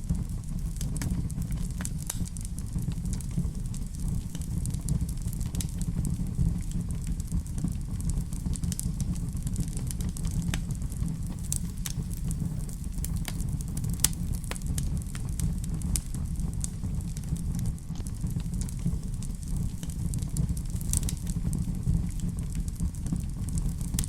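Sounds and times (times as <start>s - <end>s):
burning logs crackling and popping: 0.0s - 24.0s
low rumble of flames: 0.0s - 24.0s.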